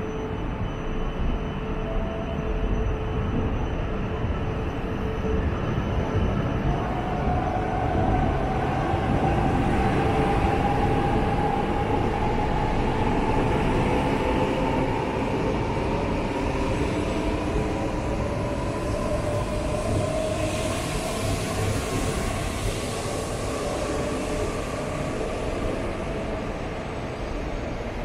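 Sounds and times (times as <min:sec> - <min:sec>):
rumble of moving train cars: 0:00.0 - 0:28.0.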